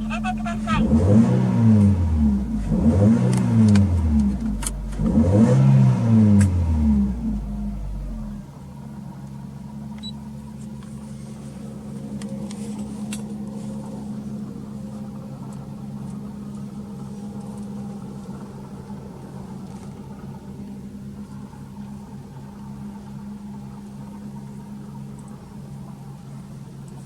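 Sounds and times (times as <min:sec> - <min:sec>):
car engine revving and idling: 0:00.0 - 0:26.6.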